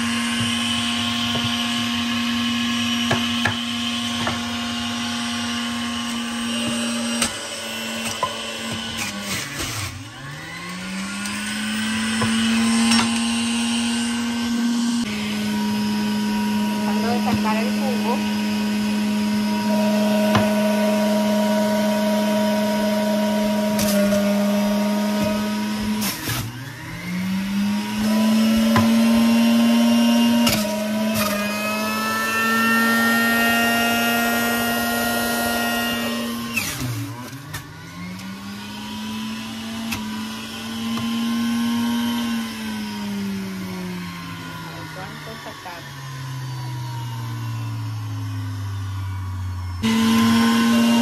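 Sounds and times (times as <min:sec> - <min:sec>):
juicer motor whining: 0:00.0 - 0:51.0.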